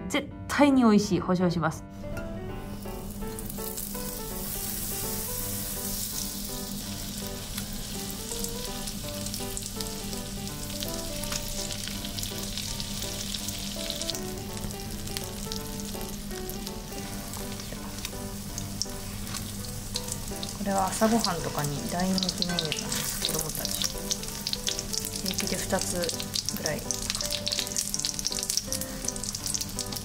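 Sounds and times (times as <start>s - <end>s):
butter sizzling in a frying pan: 2.5s - 30.0s.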